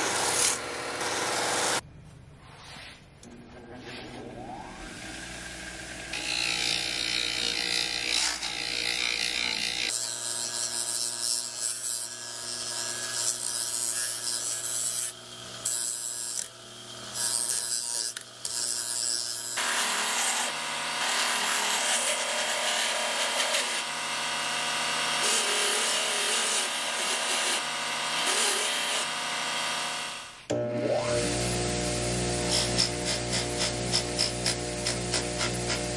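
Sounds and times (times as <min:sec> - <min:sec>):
bench grinder motor hum: 0:04.7 - 0:35.9.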